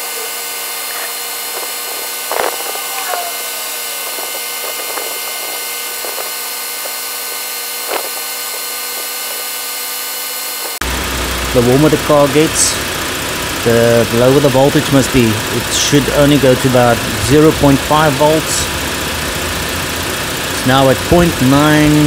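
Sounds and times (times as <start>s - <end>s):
sped-up engine whine: 0.0s - 22.0s.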